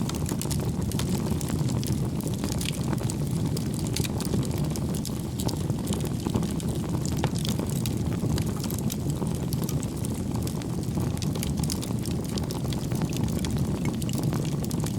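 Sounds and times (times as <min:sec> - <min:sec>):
wood fire burning and crackling: 0:00.0 - 0:14.9.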